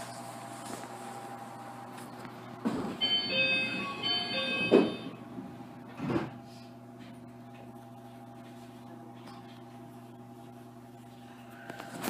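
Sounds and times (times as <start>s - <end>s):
electrical equipment humming: 0.0s - 12.0s.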